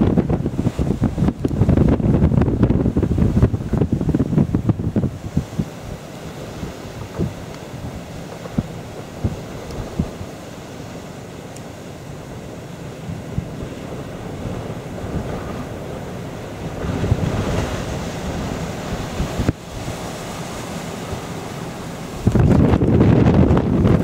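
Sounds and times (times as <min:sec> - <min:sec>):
strong wind gusting on microphone: 0:00.0 - 0:11.1, 0:12.0 - 0:24.0.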